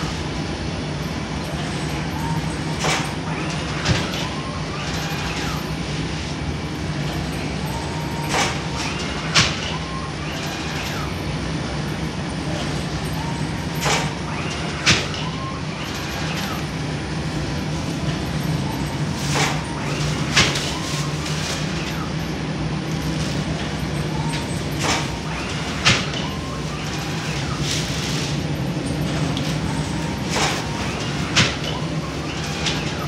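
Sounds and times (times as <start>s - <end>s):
conveyor oven humming: 0.0s - 33.0s
faint machine squeaks: 0.0s - 33.0s.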